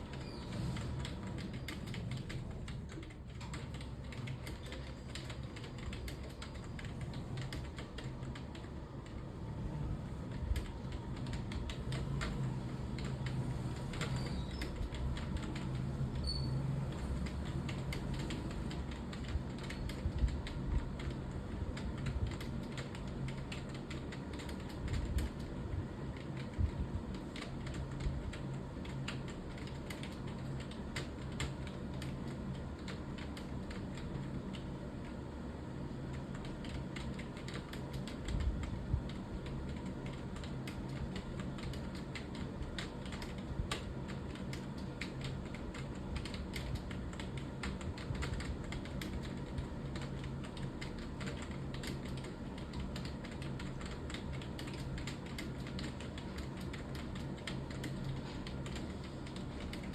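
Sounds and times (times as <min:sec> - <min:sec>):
typing on computer keyboard: 0:00.0 - 0:59.9.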